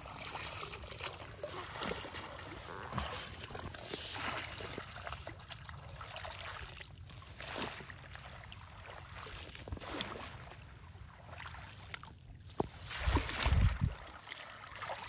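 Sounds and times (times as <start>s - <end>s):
basket swishing through water: 0.0s - 15.0s
wading through water: 0.0s - 15.0s.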